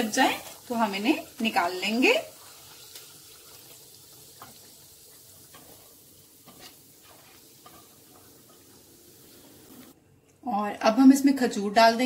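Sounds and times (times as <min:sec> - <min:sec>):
nuts frying faint sizzle: 0:00.0 - 0:11.3.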